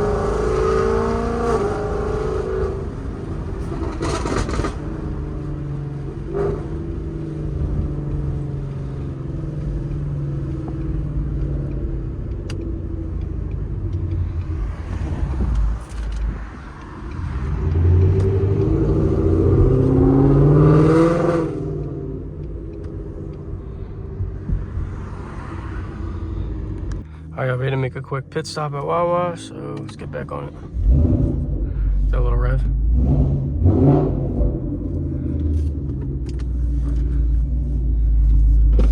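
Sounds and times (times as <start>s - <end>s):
car exhaust accelerating: 0.0s - 38.9s.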